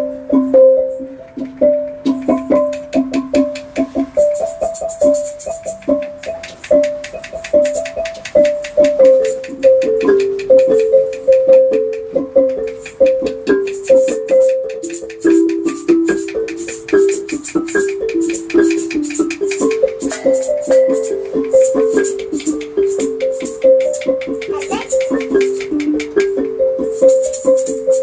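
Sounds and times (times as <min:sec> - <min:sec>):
wooden xylophone notes: 0:00.0 - 0:28.0
dry clicking rattle: 0:01.2 - 0:28.0.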